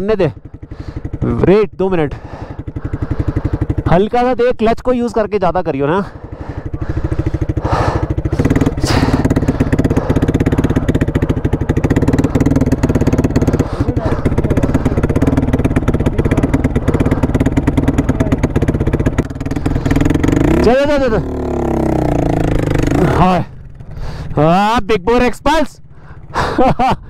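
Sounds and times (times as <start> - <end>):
motorcycle engine running at low revs: 0.0 - 27.0.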